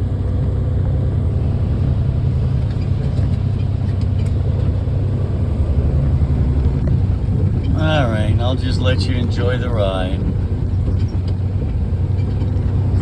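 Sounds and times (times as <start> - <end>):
diesel engine rumble: 0.0 - 13.0
road noise: 0.0 - 13.0.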